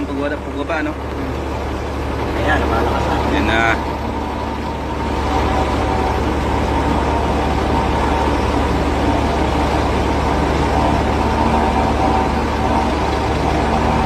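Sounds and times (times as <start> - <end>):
helicopter engine and rotor drone: 0.0 - 14.0
turbine whine: 0.0 - 14.0.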